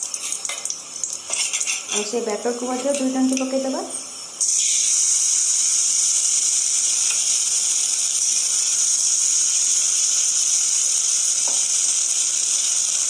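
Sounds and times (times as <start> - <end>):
batter sizzling in hot oil: 0.0 - 13.0.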